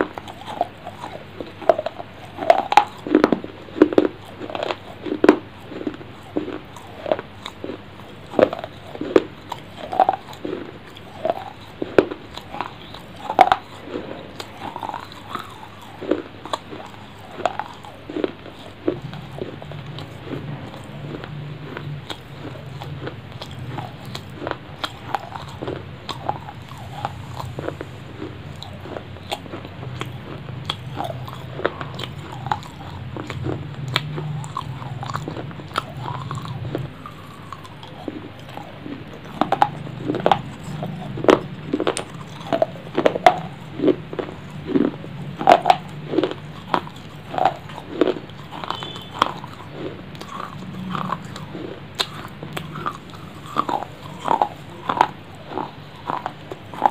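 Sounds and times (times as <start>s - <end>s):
person chewing close up: 0.0s - 56.9s
wet mouth clicks and smacks: 0.0s - 56.9s.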